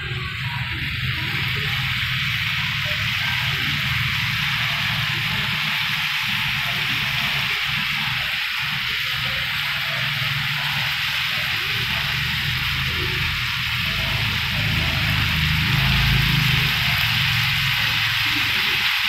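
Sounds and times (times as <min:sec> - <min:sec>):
sauce sizzling in a pan: 0:00.3 - 0:19.0.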